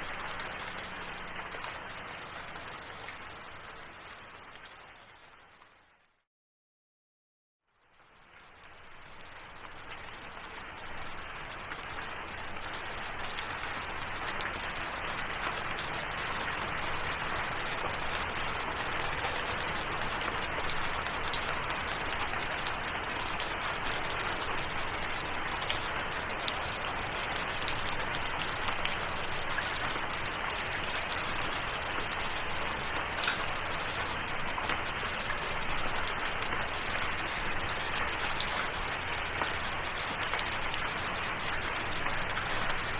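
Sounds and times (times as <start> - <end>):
rain falling on surfaces: 0.0 - 6.1, 7.7 - 42.9.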